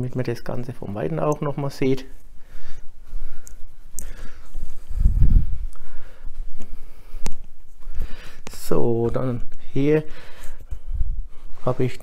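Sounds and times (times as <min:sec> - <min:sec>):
faint low rumble: 0:00.1 - 0:12.0.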